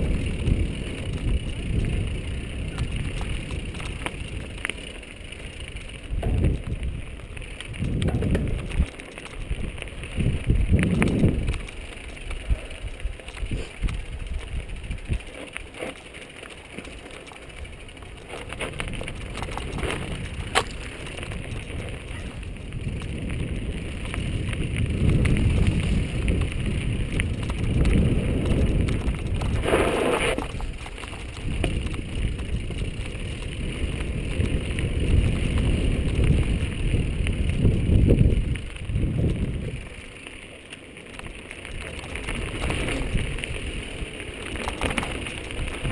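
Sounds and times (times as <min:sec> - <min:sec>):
bike knocks and rattles: 0:00.0 - 0:12.3, 0:13.2 - 0:36.7, 0:44.3 - 0:45.9
wind rush on microphone: 0:00.0 - 0:15.4, 0:17.6 - 0:40.2, 0:41.2 - 0:45.9
tyre rumble over dirt: 0:00.0 - 0:45.9.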